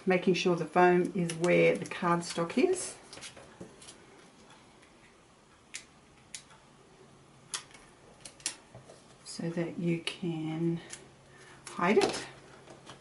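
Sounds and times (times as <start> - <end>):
quiet room hiss: 0.0 - 13.0.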